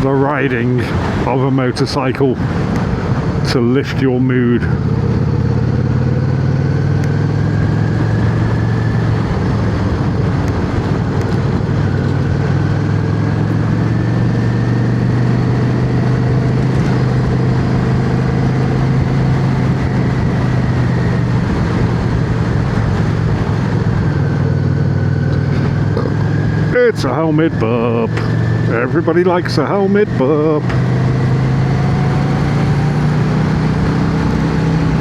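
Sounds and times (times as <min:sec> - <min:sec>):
motorcycle engine running: 0:00.0 - 0:35.0
road and wind rush: 0:00.0 - 0:35.0.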